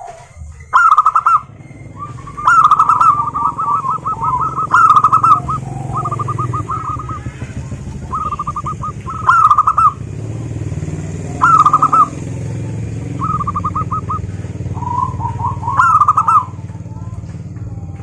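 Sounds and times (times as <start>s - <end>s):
doves cooing in trills: 0.0s - 18.0s
low rumble: 0.0s - 18.0s.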